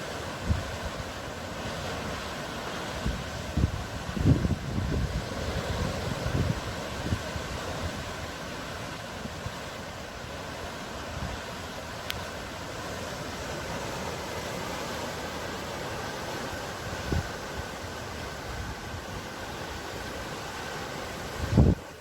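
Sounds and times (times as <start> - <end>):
sea surf washing: 0.0 - 22.0.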